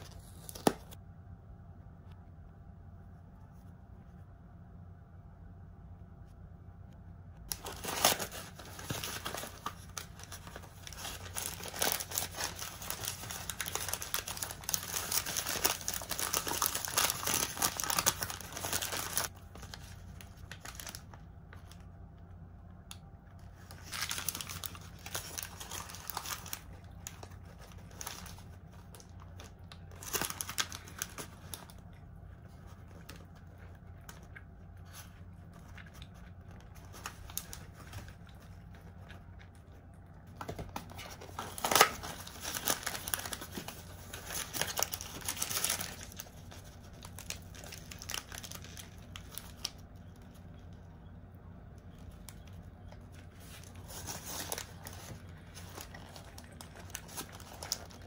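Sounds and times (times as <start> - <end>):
paper wrapper crinkling: 0.0 - 1.0, 7.5 - 22.5, 23.2 - 58.0.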